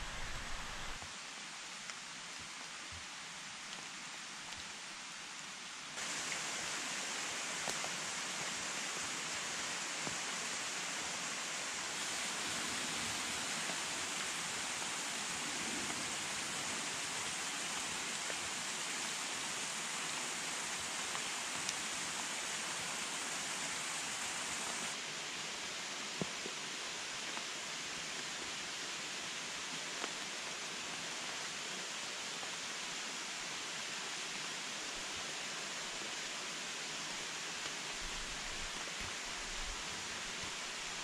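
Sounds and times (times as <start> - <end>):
mountain stream rushing: 0.0 - 2.2, 5.9 - 41.0.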